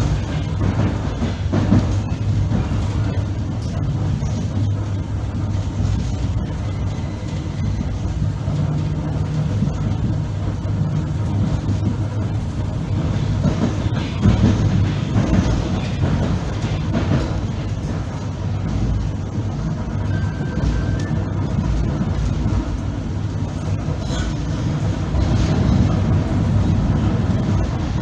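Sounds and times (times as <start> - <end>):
wheels rumbling on rails: 0.0 - 28.0.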